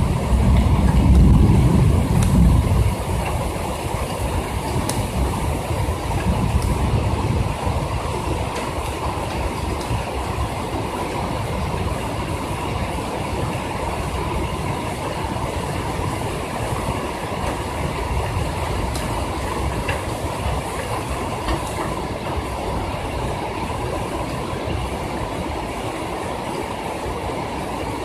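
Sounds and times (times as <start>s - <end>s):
heavy rain clattering: 0.0s - 28.0s.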